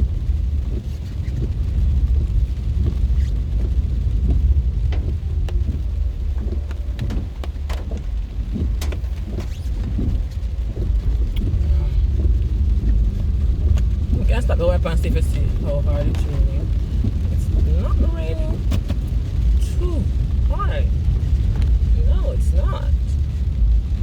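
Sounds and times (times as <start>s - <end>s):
raindrops hitting car: 0.0s - 24.0s
road and engine rumble: 0.0s - 24.0s.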